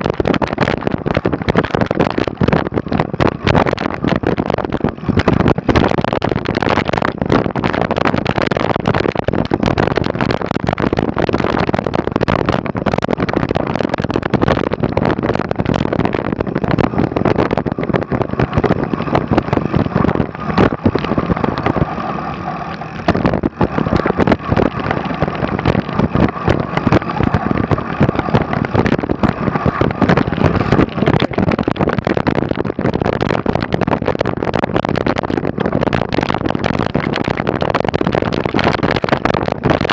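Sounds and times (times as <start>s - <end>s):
bike rattling over rough trail: 0.0s - 39.9s
faint steady whine: 0.0s - 39.9s.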